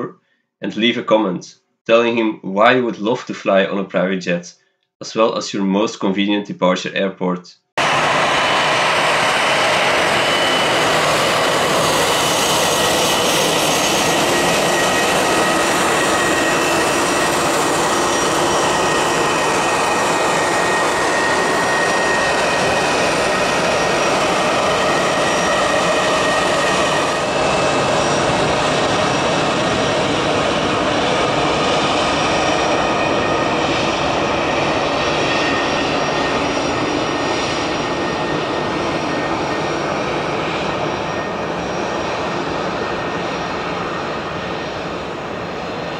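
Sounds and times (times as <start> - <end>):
high jet whine: 7.8 - 45.9
jet engine noise: 7.8 - 45.9.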